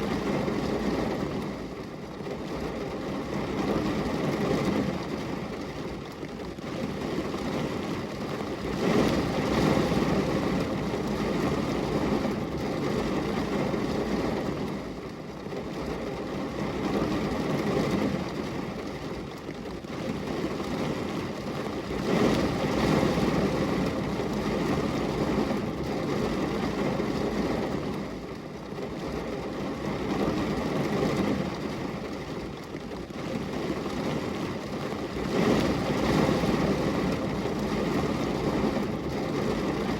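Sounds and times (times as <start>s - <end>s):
rain pattering on glass window: 0.0s - 39.9s.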